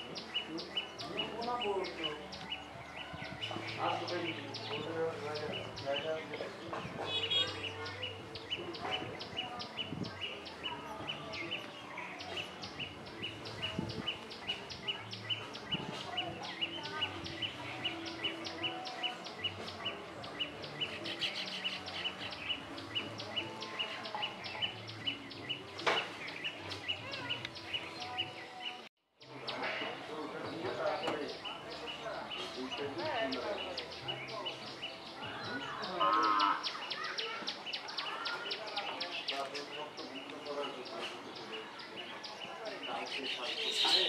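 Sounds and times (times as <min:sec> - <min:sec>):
bird chirping: 0:00.0 - 0:44.0
soft outdoor background: 0:00.0 - 0:44.0.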